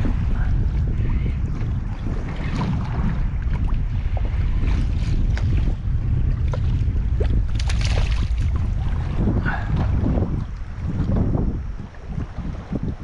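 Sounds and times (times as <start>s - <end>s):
waves lapping against kayak hull: 0.0s - 13.0s
wind buffeting microphone: 0.0s - 13.0s.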